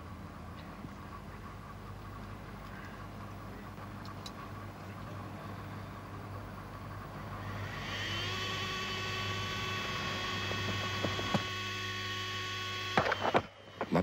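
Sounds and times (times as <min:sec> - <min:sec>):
hum with overtones: 0:00.0 - 0:14.0
mains hum: 0:00.0 - 0:14.0.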